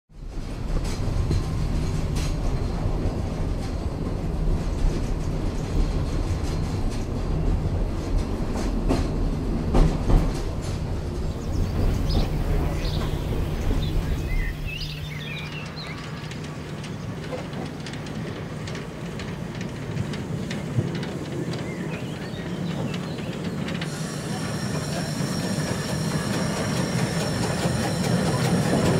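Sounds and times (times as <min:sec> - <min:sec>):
steam train rumbling on rails: 0:00.1 - 0:28.9.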